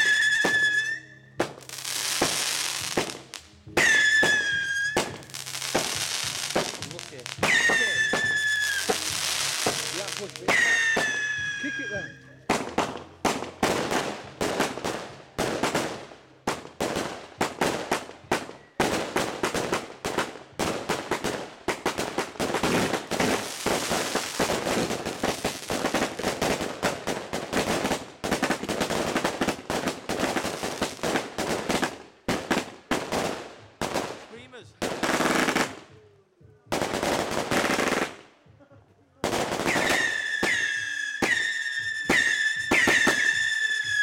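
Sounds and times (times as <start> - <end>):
fireworks banging and crackling: 0.0 - 44.0.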